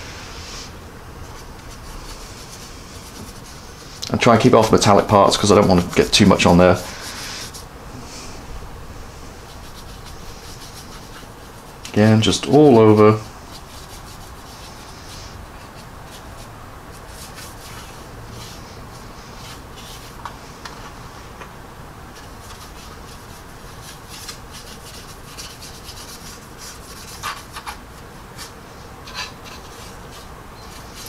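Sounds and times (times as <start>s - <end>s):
paintbrush scrubbing plastic: 0.5s - 7.7s, 9.3s - 20.3s, 22.2s - 31.0s.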